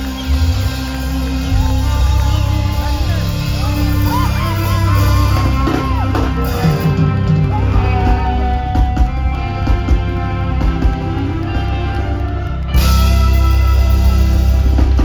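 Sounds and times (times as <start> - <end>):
electric guitar: 0.0 - 15.0
heavy bass line: 0.0 - 15.0
live reggae band: 0.0 - 15.0.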